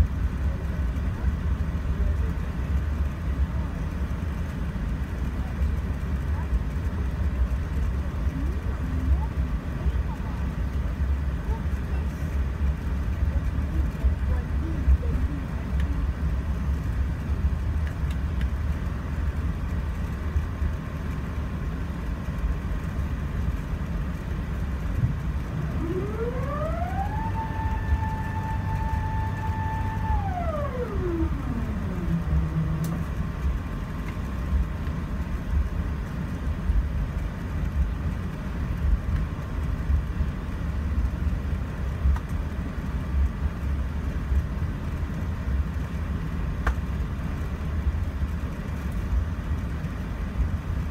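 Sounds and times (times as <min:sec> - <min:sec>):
aircraft whine: 0:00.0 - 0:45.0
aircraft cabin low rumble: 0:00.0 - 0:50.9.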